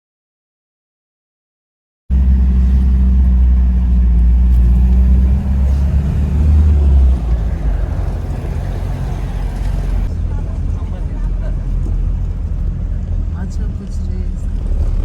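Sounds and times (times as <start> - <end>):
road rumble: 2.1 - 15.0
vehicle engine drone: 2.1 - 15.0.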